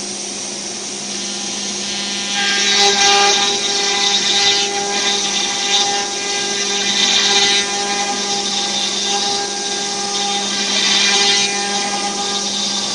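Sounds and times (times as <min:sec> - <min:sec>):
router spindle whine: 0:00.0 - 0:12.9
end mill cutting wood: 0:00.7 - 0:12.9.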